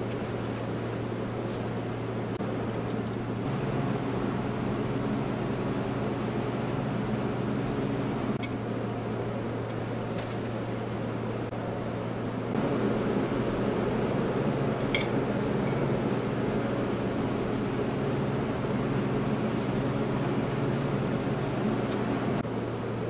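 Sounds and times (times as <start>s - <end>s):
power supply electrical hum: 0.0s - 23.0s.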